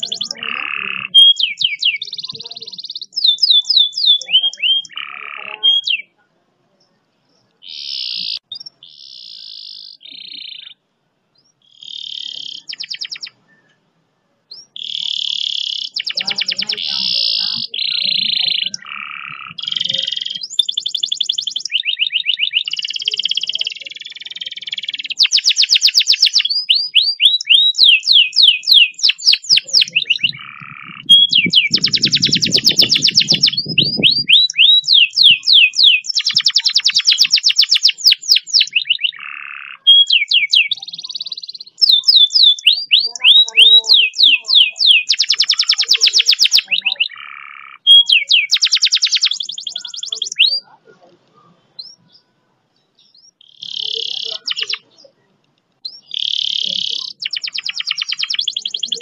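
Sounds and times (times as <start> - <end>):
canary singing: 0.0 - 13.9, 14.5 - 59.0.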